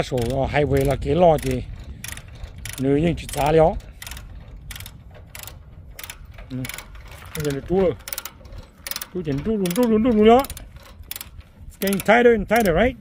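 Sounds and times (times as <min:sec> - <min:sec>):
ratchet binder clicking: 0:00.0 - 0:13.0.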